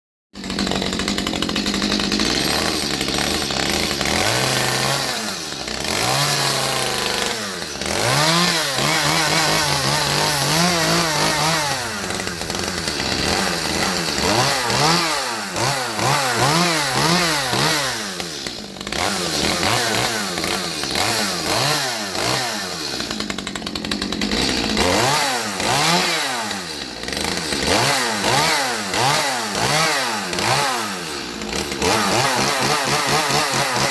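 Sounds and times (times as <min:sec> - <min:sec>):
chainsaw engine revving: 0:00.4 - 0:33.9.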